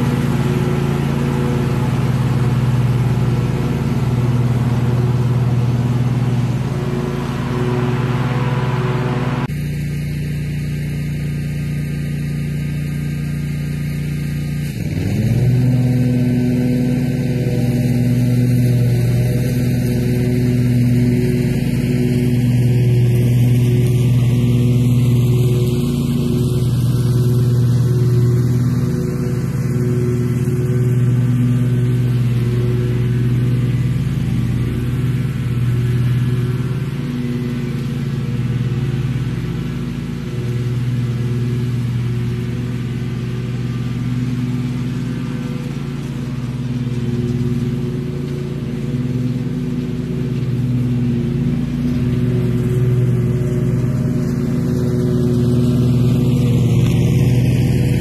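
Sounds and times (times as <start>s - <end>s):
lawn mower engine hum: 0.0s - 58.0s.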